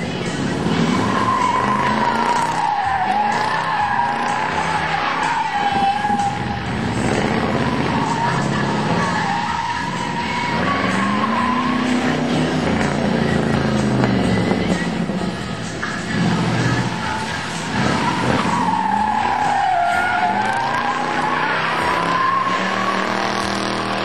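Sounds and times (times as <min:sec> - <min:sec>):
tyres squealing: 0:00.0 - 0:24.0
car engine revving high: 0:00.1 - 0:24.0.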